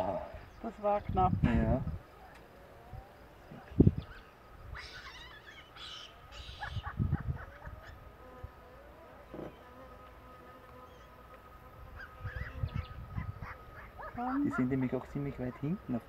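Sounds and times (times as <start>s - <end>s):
faint insect buzz: 0.0s - 16.0s.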